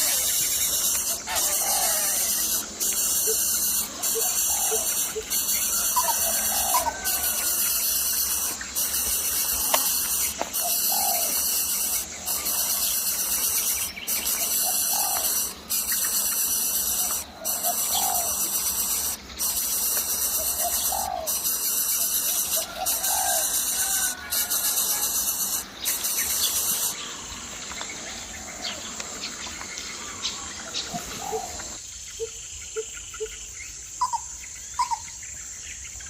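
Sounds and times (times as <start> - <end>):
bird calling rising notes: 0.0 - 32.3
high-pitched hiss: 0.0 - 36.0.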